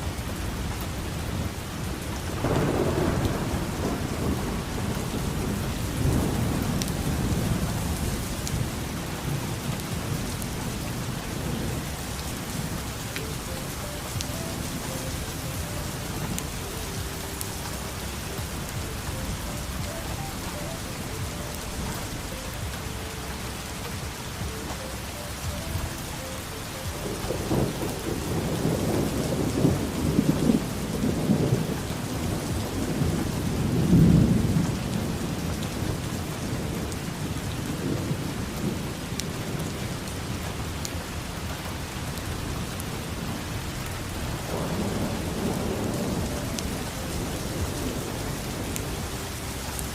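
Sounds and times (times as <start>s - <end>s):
steady rain: 0.0s - 49.9s
thunder rumbling: 0.0s - 49.9s.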